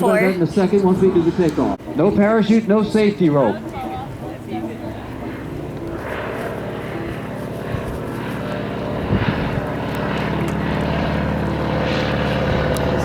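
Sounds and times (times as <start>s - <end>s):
propeller plane engine roaring: 0.0s - 13.0s.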